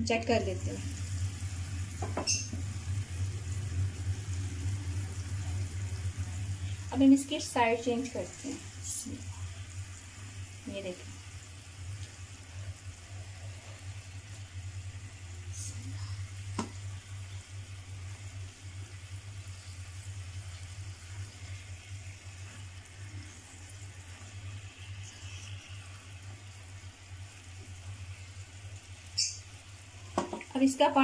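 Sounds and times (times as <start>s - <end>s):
steady low hum: 0.0s - 31.0s
chicken sizzling in frying pan: 0.3s - 31.0s
spatula turning food in pan: 0.5s - 31.0s.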